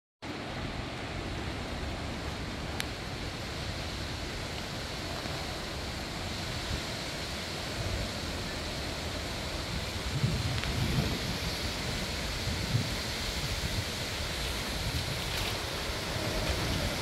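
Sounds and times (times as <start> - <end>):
strong wind through trees: 0.2 - 17.0
wind buffeting microphone: 0.4 - 17.0.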